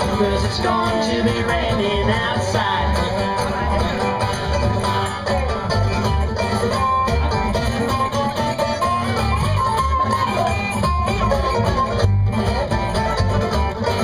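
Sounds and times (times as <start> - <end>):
banjo picking: 0.0 - 14.0
guitar picking: 0.0 - 14.0
low bass beat: 0.0 - 14.0.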